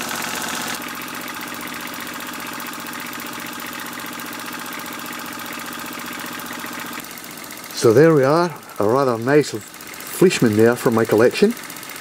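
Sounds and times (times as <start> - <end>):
toy steam engine running: 0.0 - 12.0.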